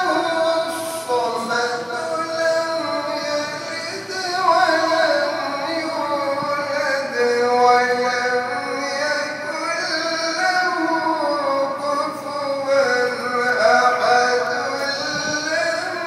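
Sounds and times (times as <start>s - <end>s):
man chanting recitation: 0.0s - 16.0s.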